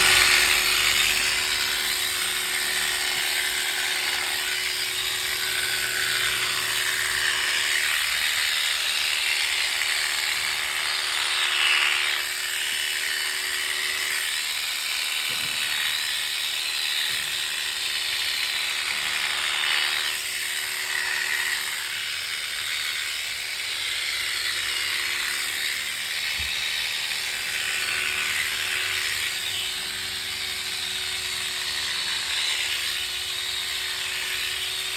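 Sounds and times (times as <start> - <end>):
electric clippers buzzing: 0.0 - 34.9.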